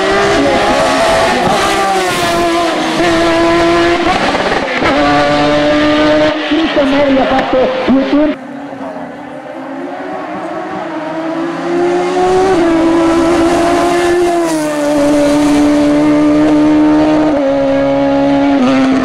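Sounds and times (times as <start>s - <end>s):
race car engine at high revs: 0.0s - 19.0s.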